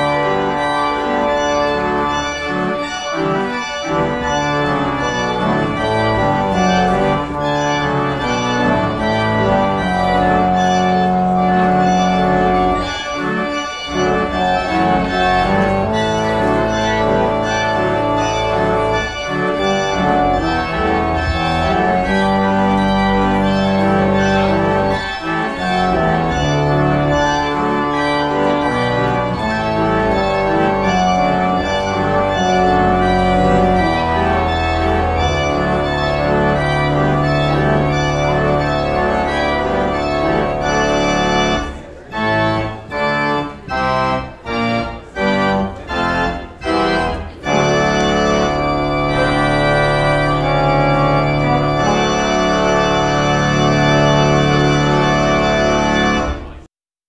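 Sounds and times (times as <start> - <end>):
organ chords: 0.0 - 56.7.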